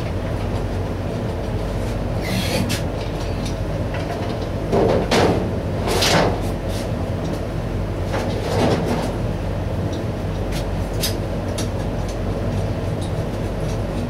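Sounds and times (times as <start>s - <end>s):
shop machinery humming: 0.0s - 14.0s.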